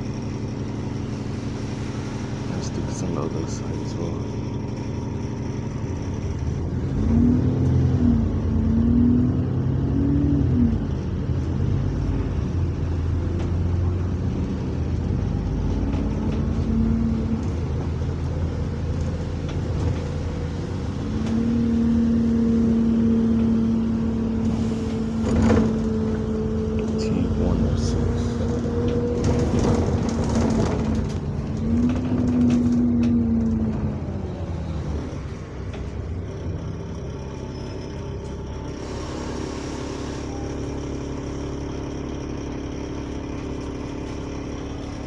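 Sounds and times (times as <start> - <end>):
bus engine and transmission: 0.0 - 45.0.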